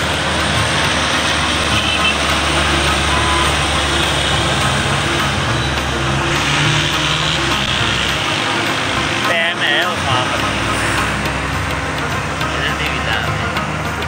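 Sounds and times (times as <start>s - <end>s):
road and wind noise: 0.0s - 14.0s
truck diesel engine running: 0.0s - 14.0s.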